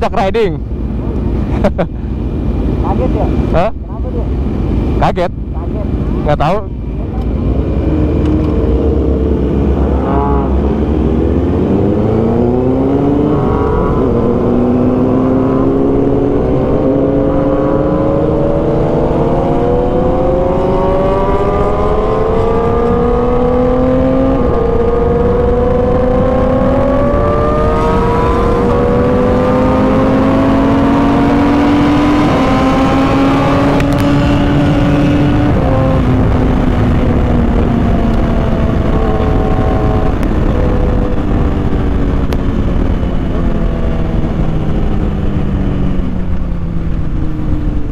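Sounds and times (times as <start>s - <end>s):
wind rumble on microphone: 0.0s - 47.9s
motorcycle engine shifting gears: 6.1s - 47.9s.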